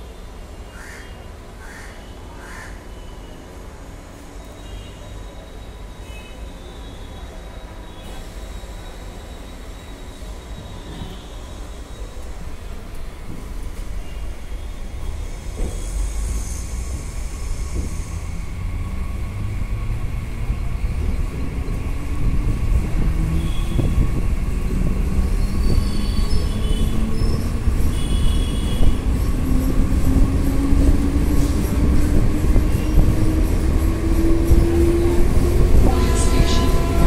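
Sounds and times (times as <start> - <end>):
train wheels rumbling on track: 7.2 - 37.0.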